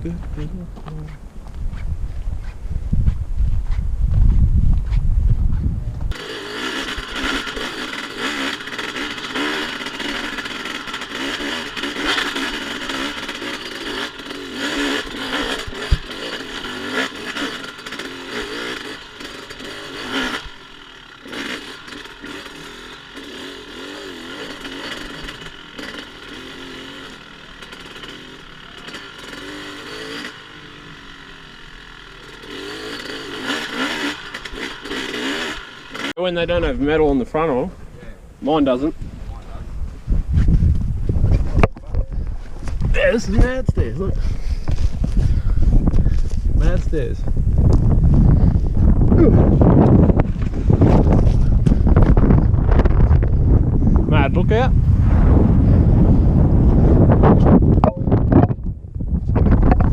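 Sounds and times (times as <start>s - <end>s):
dirt bike engine revving: 6.1s - 37.7s, 40.7s - 58.8s.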